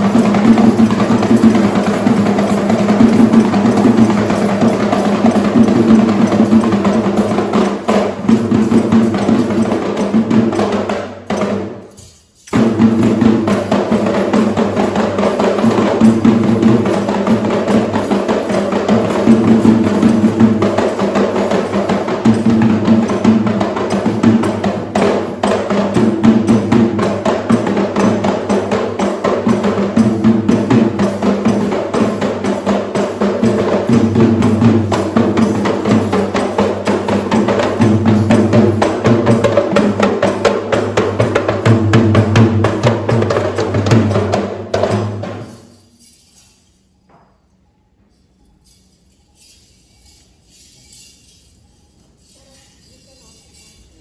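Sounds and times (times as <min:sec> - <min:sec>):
traditional drums in fast rhythm: 0:00.0 - 0:46.0.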